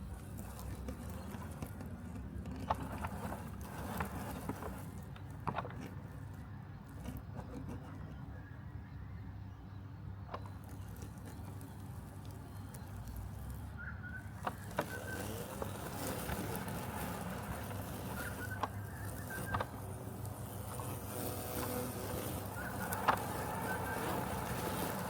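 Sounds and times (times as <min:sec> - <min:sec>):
robotic lawn mower humming: 0:00.0 - 0:07.3, 0:10.3 - 0:25.0.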